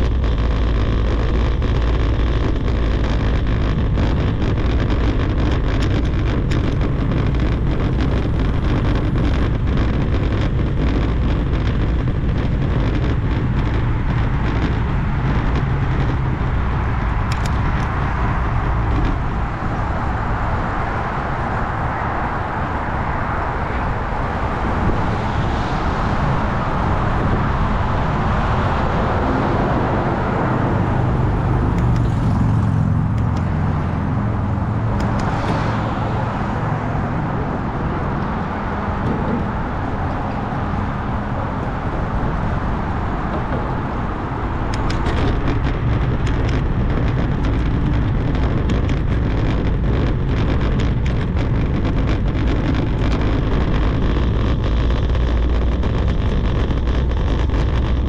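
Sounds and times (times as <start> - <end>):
bike tyres rolling: 0.0 - 58.0
traffic hum: 0.0 - 58.0
wind buffeting microphone: 0.0 - 58.0.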